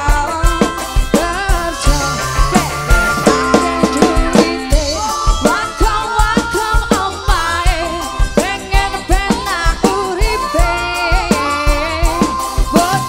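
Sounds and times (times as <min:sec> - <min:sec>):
driving uneven drum pattern: 0:00.0 - 0:13.0
live band music: 0:00.0 - 0:13.0.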